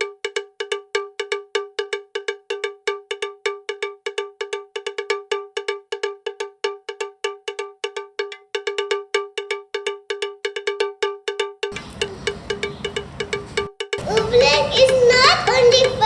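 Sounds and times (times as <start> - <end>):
cowbell-like bell strikes: 0.0 - 14.9.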